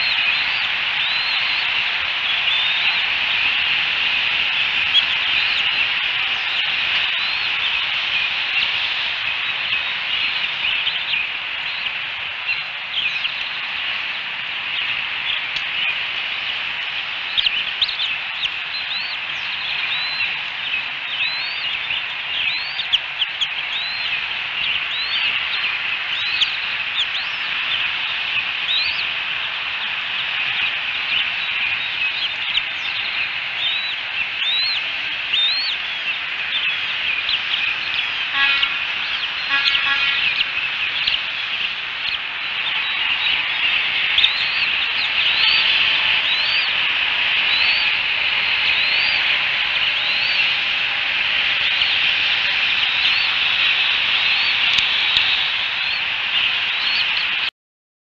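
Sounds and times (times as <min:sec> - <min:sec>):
eagle chicks peeping: 0:00.0 - 0:57.5
steady hiss: 0:00.0 - 0:57.5.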